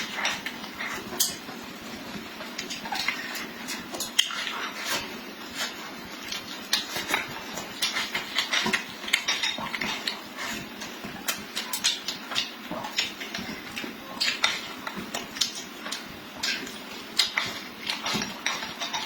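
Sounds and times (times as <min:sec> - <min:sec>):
person chewing and smacking: 0:00.0 - 0:19.0.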